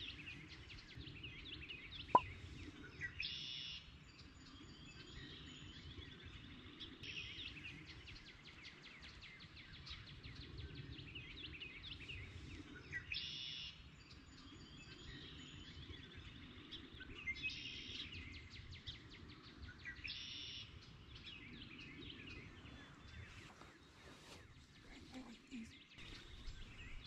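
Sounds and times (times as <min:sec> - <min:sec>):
songbirds chirping and singing: 0:00.0 - 0:27.0.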